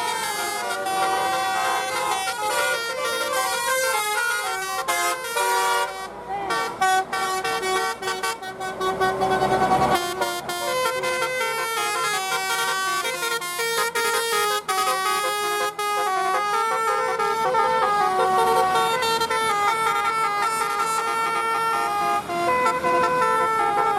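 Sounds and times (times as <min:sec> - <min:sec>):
multi-tone bus horn tune: 0:00.0 - 0:23.9.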